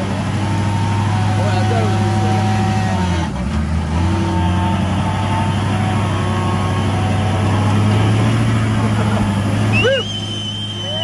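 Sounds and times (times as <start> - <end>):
truck engine at low revs: 0.0 - 11.0.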